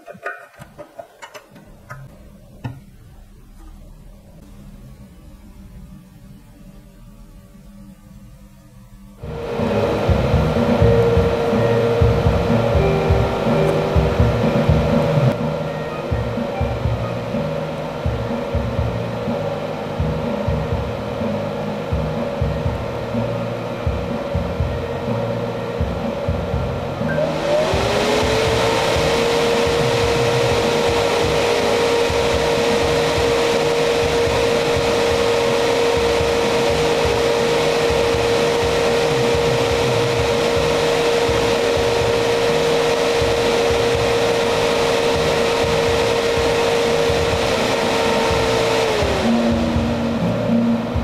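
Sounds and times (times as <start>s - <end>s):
cooling fan whining: 0.0s - 51.0s.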